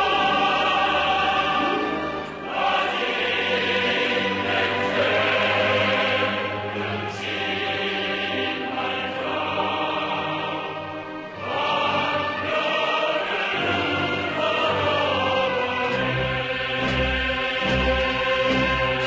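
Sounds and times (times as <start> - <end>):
choir singing: 0.0 - 19.0
musical accompaniment: 0.0 - 19.0.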